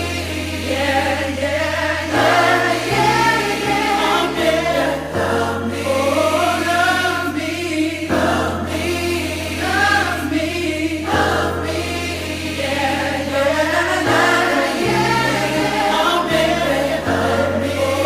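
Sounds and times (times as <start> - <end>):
choir singing: 0.0 - 18.0
sustained bass chords: 0.0 - 18.0.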